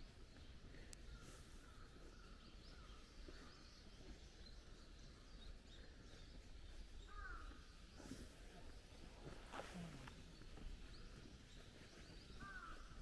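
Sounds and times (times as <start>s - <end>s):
small bird chirps: 0.0s - 13.0s.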